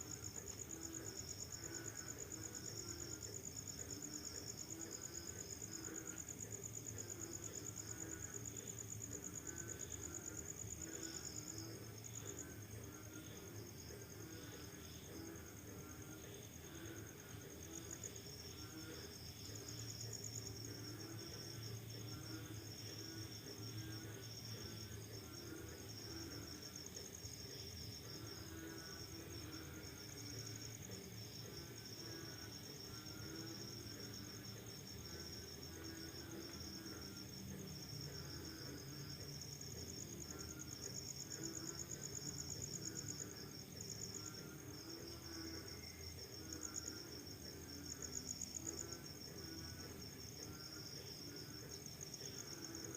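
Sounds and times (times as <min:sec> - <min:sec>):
crickets trilling: 0:00.0 - 0:52.9
frogs croaking: 0:00.0 - 0:52.9.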